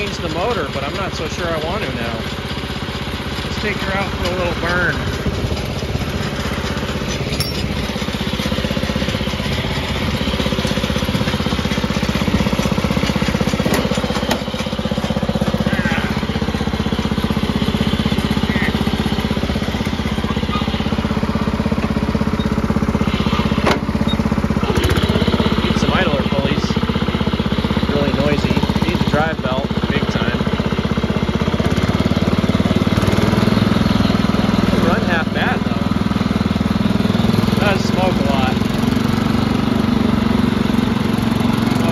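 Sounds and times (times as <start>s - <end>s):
garden tractor engine running: 0.0s - 41.9s.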